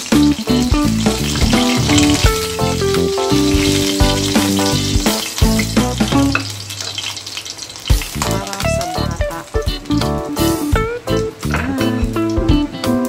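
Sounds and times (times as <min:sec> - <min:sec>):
guitar music: 0:00.0 - 0:06.9, 0:07.9 - 0:13.0
chicken frying in hot oil: 0:00.0 - 0:13.0.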